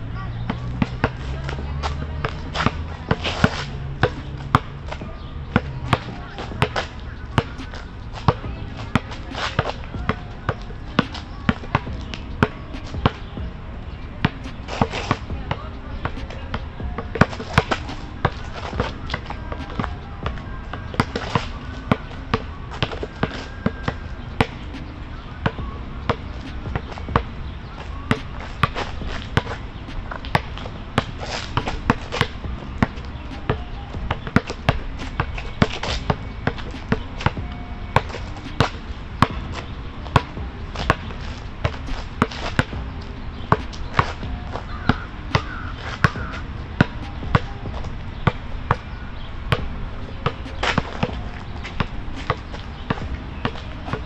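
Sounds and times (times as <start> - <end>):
basketball bouncing: 0.5 - 13.6, 14.2 - 54.0.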